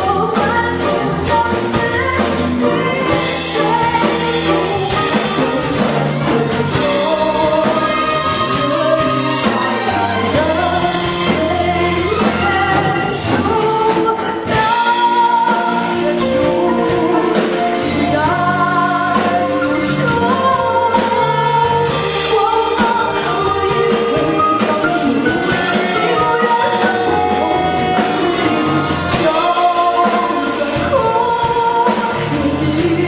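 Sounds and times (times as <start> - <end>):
band accompaniment: 0.0 - 33.0
woman singing pop ballad: 0.0 - 33.0.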